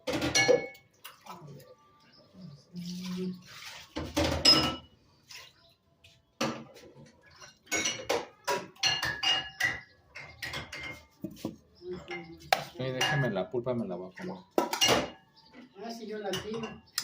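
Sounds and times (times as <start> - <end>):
dishes and utensils clinking: 0.0 - 1.6, 3.5 - 17.0.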